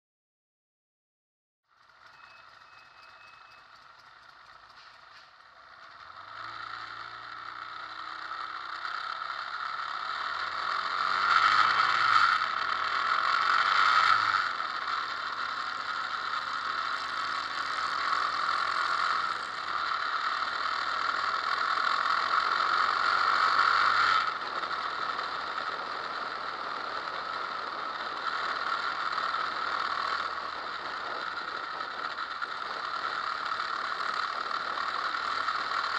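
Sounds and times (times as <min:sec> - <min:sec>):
motorcycle engine: 0:01.6 - 0:35.9
road noise: 0:01.6 - 0:35.9.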